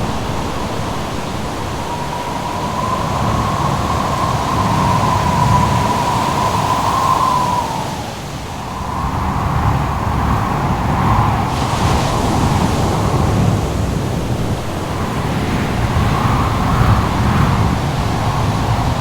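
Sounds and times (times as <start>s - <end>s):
howling wind: 0.0s - 19.0s
surf rumbling: 0.0s - 19.0s.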